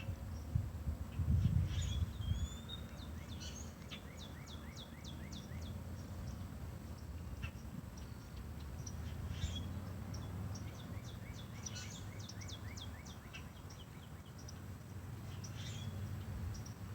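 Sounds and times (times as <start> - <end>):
songbird singing: 0.0 - 16.9.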